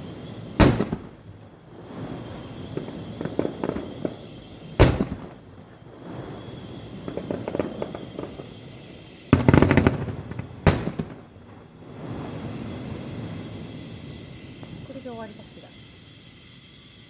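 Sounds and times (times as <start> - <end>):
firework boom: 0.0 - 15.7
fireworks crackling: 0.0 - 17.0.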